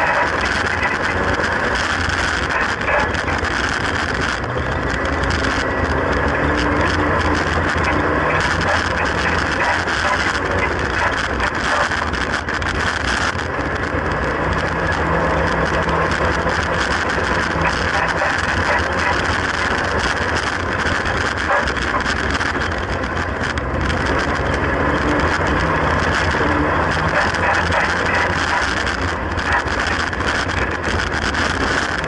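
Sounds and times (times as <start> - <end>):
car engine revving: 0.0 - 32.0
small clicks and rattles: 0.0 - 32.0
tyre and gravel noise: 0.0 - 32.0.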